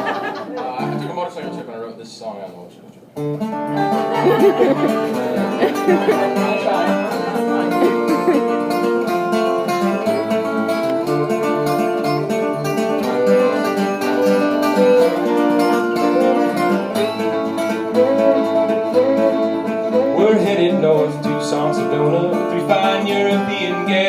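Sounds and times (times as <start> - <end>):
picked acoustic strings: 3.2 - 24.0.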